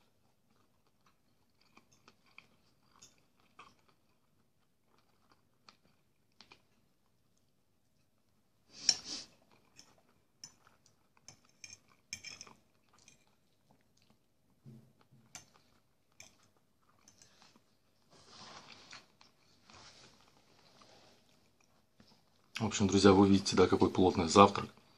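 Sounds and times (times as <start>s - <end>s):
man chewing food: 0.0s - 22.6s.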